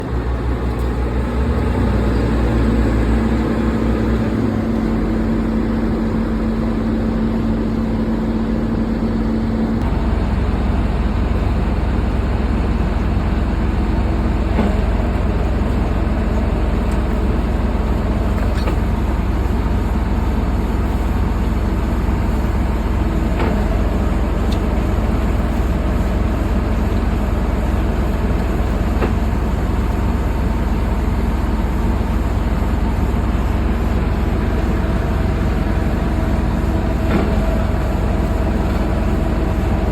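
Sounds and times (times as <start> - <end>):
diesel engine running: 0.0 - 39.9
steady hum: 0.0 - 39.9.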